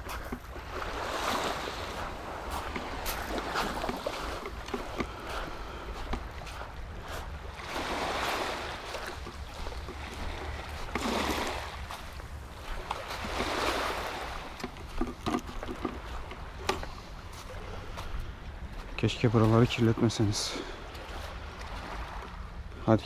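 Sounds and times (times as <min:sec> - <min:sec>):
small waves washing ashore: 0:00.0 - 0:23.0.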